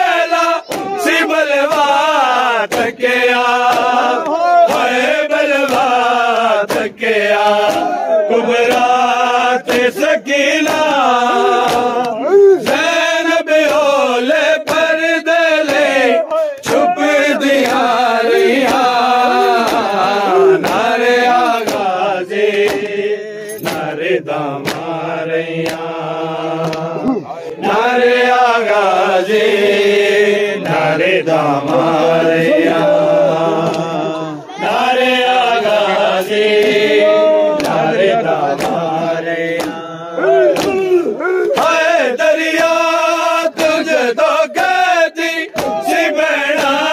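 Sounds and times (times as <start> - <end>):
men chanting a lament: 0.0 - 46.9
hands slapping chests: 0.3 - 27.9, 32.7 - 34.3, 35.6 - 39.9, 40.5 - 44.8, 45.4 - 46.9.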